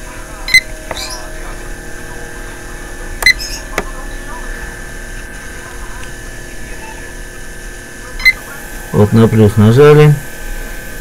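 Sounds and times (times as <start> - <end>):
thin electrical hum: 0.0 - 11.0.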